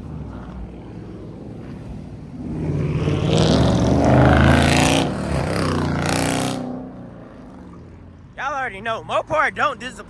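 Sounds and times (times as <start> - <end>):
car engine accelerating hard: 0.0 - 8.2.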